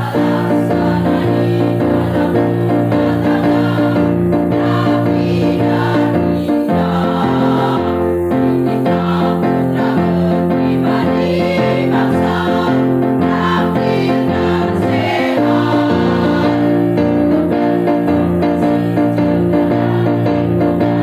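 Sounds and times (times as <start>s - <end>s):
women's choir singing: 0.0s - 21.0s.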